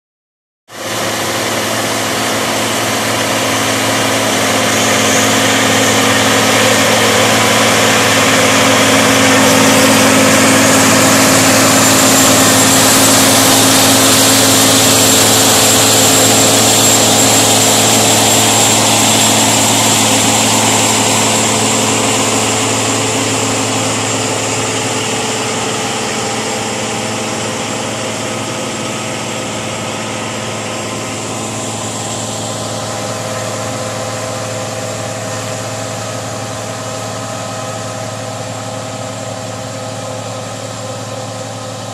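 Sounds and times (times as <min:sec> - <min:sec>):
high whine: 0:00.7 - 0:41.9
tractor diesel engine under load: 0:00.7 - 0:41.9.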